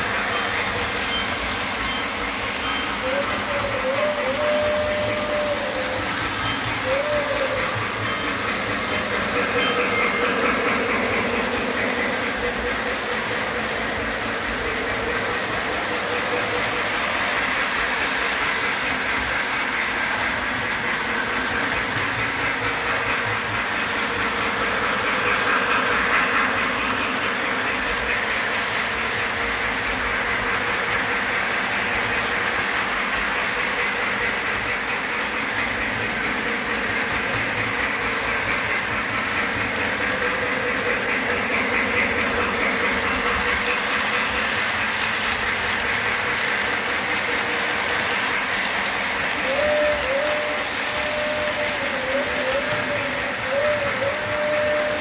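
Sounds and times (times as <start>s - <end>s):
model train wheels clattering: 0.0s - 55.0s.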